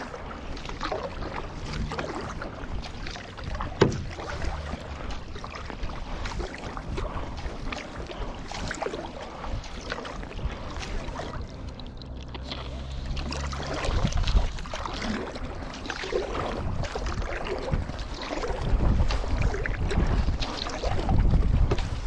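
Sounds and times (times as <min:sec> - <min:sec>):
paddle strokes and water splashing: 0:00.0 - 0:22.0
wind rumbling on microphone: 0:00.0 - 0:22.0.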